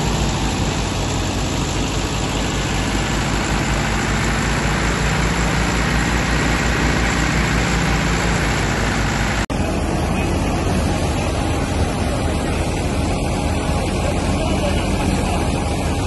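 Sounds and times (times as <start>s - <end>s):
thresher running: 0.0s - 16.0s
tractor diesel engine running: 0.0s - 16.0s.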